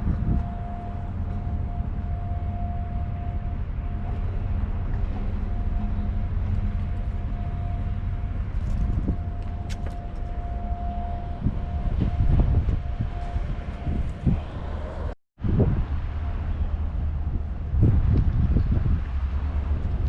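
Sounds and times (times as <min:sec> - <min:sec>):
constant high hum: 0:00.0 - 0:20.0
machinery rumble: 0:00.0 - 0:20.0.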